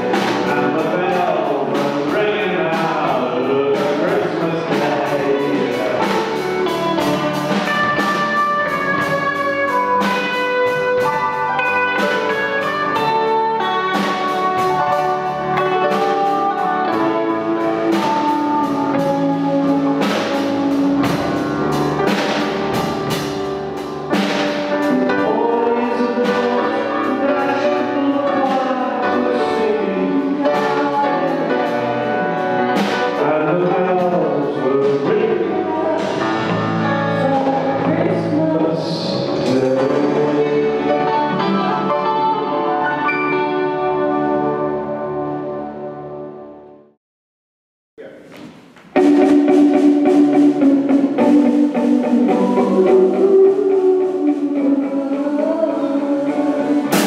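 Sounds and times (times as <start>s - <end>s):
person singing: 0.0s - 23.2s, 24.2s - 44.8s, 49.0s - 57.0s
drum kit: 0.0s - 42.8s, 48.0s - 57.0s
electric guitars: 0.0s - 46.6s, 48.8s - 57.0s
keyboards: 0.0s - 46.9s, 48.0s - 57.0s.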